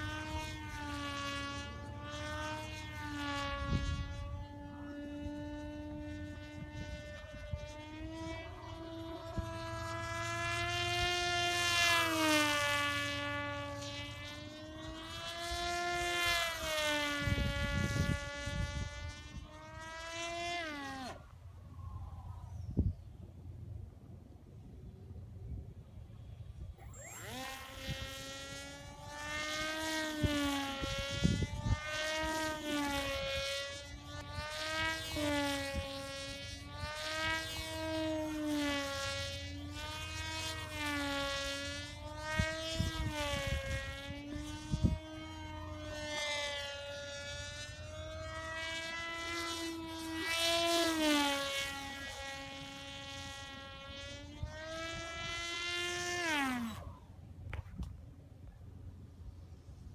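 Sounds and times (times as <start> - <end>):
electric motor and propeller whining: 0.0 - 59.9.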